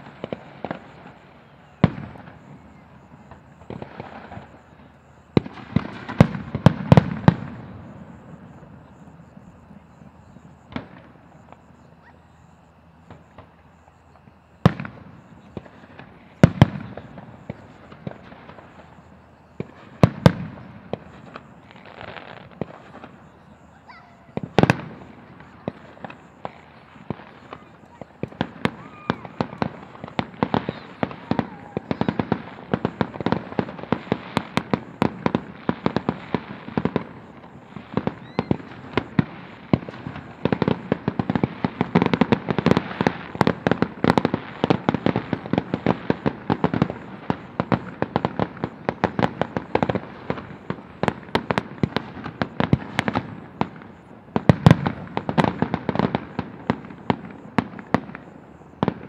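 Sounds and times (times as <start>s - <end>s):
fireworks bangs and pops: 0.0s - 12.1s, 12.7s - 59.0s.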